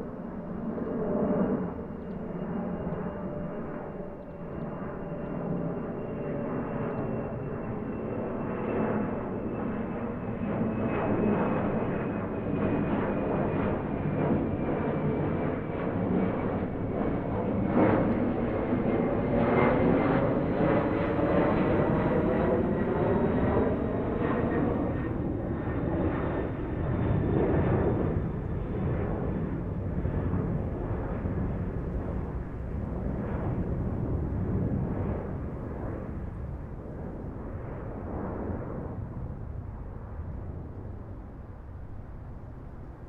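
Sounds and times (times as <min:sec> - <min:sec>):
airplane engine rumble: 0:00.0 - 0:43.0.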